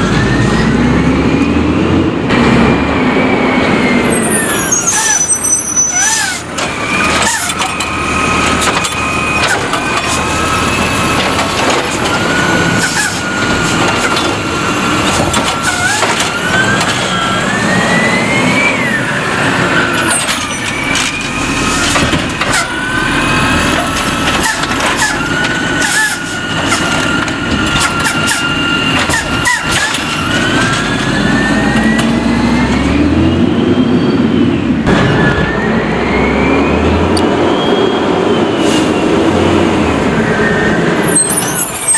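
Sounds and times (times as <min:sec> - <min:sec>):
hydraulic whines: 0:00.0 - 0:41.9
truck engine droning and revving: 0:00.0 - 0:41.9.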